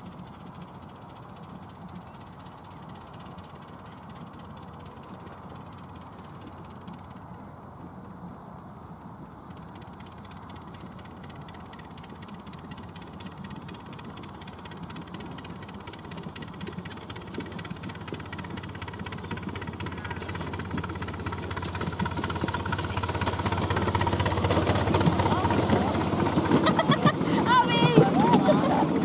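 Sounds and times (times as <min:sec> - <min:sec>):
miniature train running on track: 0:00.0 - 0:29.0.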